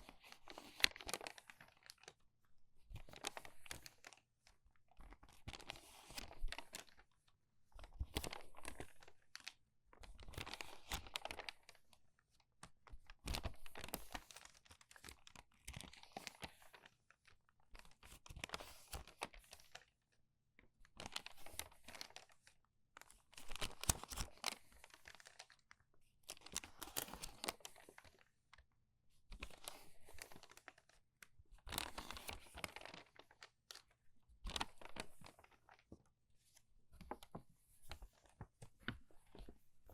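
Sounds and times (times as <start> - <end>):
crumpled paper pages turning: 0.0 - 2.2, 2.9 - 7.1, 7.8 - 12.0, 12.9 - 19.9, 20.9 - 28.4, 29.3 - 39.9.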